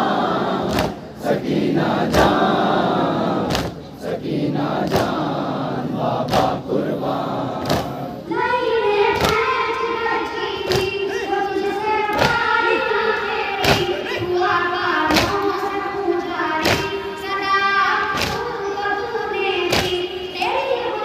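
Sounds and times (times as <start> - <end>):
crowd beating chests in unison: 0.0 - 8.3, 9.1 - 10.0, 10.6 - 17.4, 18.0 - 18.7, 19.6 - 20.4.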